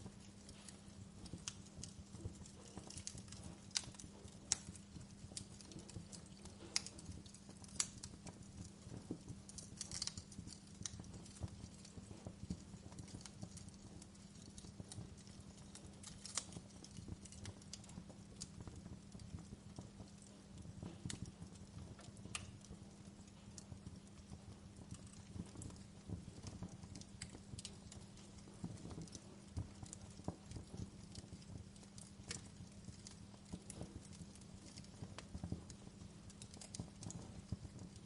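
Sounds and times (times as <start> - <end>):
fire crackling and popping: 0.0 - 38.0.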